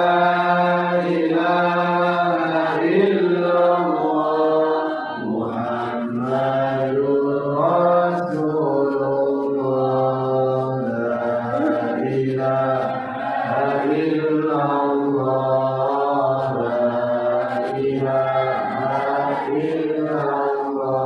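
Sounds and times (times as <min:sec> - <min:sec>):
person chanting long held notes: 0:00.0 - 0:21.0.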